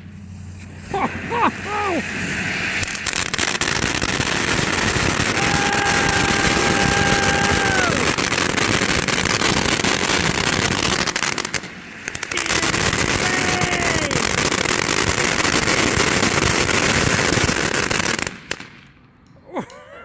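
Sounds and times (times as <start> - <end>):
firework whistling: 0.0 - 19.0
fireworks crackling and popping: 0.0 - 19.2.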